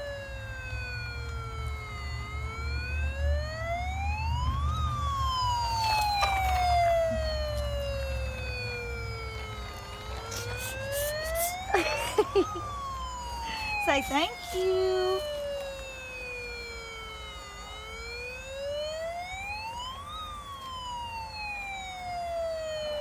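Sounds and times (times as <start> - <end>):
toy electronic siren wailing: 0.0 - 23.0.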